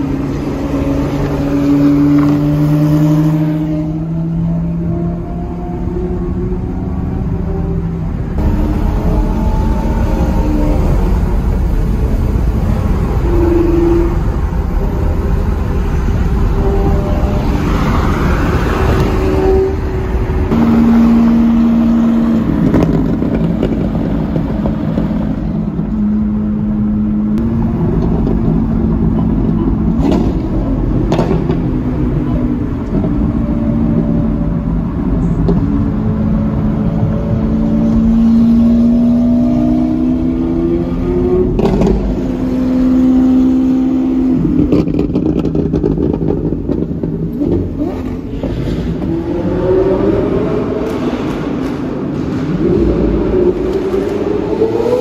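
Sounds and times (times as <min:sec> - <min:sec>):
car engines revving and accelerating: 0:00.0 - 0:55.0.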